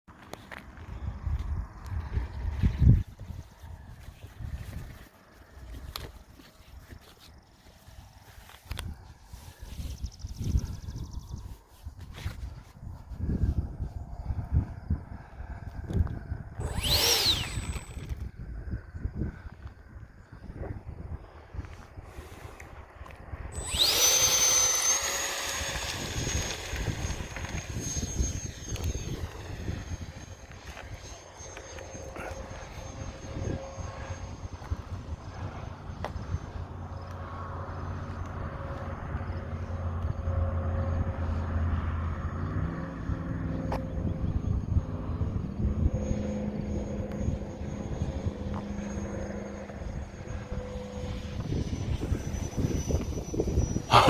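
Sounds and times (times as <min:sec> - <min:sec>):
electric jet motor whine: 0:00.2 - 0:54.0.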